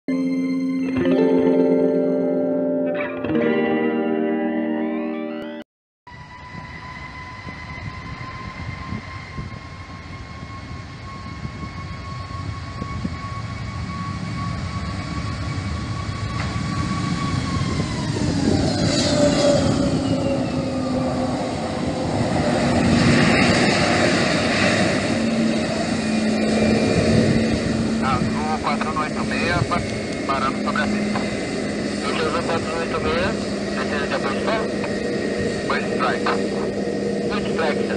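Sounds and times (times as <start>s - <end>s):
jet engines on takeoff roll: 6.1s - 37.9s.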